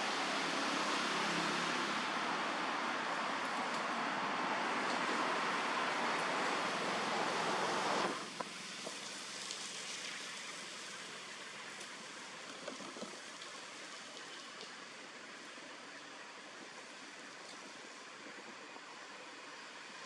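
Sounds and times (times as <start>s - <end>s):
steady outdoor rushing noise: 0.0s - 20.0s.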